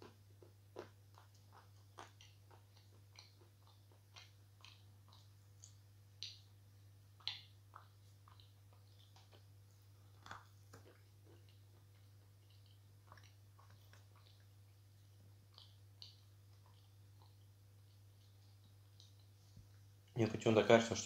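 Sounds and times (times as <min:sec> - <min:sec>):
faint chewing crackles: 0:00.0 - 0:21.0
low electrical hum: 0:00.0 - 0:21.0.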